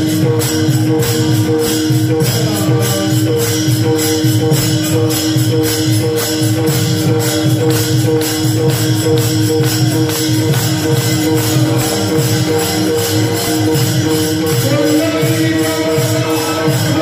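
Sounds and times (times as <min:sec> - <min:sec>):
hand cymbals clashing: 0:00.0 - 0:17.0
hand drum: 0:00.0 - 0:17.0
steady held notes: 0:00.0 - 0:17.0.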